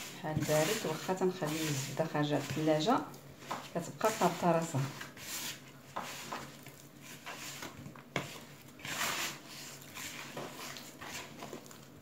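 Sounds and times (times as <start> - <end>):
dough swishing in plastic bowl: 0.0 - 12.0.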